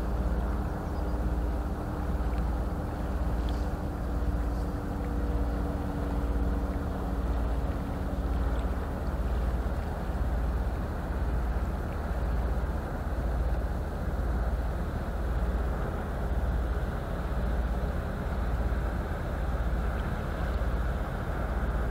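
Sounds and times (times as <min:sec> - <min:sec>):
faint hum: 0:00.0 - 0:21.9.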